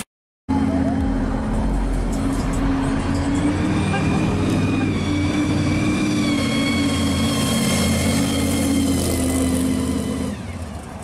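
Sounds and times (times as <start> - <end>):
supercharger blower whine: 0.5 - 10.9.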